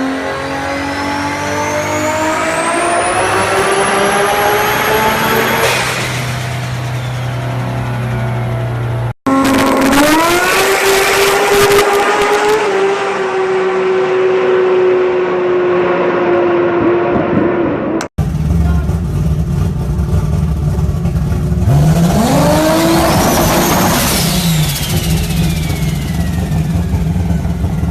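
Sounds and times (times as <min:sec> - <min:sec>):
car engine at high revs: 0:00.0 - 0:27.9.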